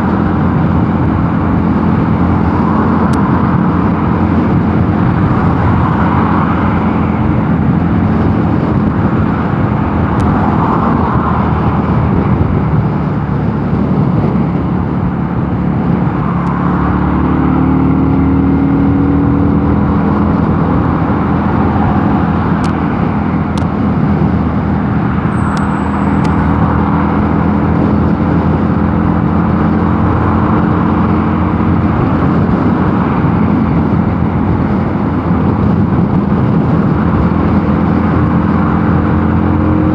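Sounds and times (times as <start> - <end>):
wind rushing past microphone: 0.0 - 39.9.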